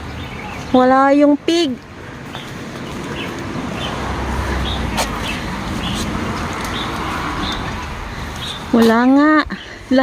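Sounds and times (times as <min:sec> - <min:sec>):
low vehicle rumble: 0:00.0 - 0:10.0
road traffic rushing: 0:00.0 - 0:10.0.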